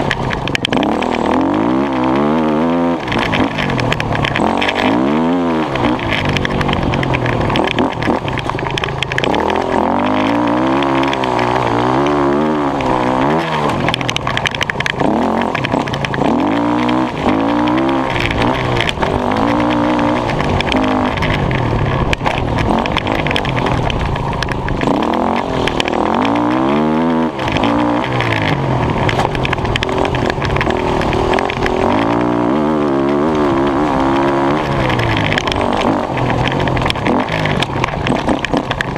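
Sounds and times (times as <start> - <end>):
dirt bike engine revving: 0.0 - 38.9
steady noisy rush: 0.0 - 38.9.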